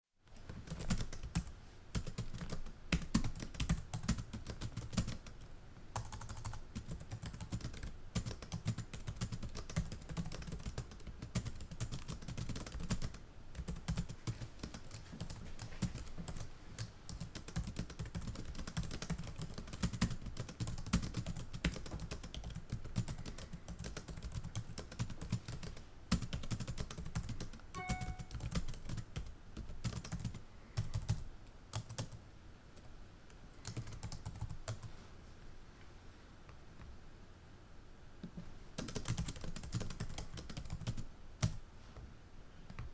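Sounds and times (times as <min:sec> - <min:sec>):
fast typing on keyboard: 0:00.4 - 0:32.2, 0:33.6 - 0:34.9, 0:38.8 - 0:41.6.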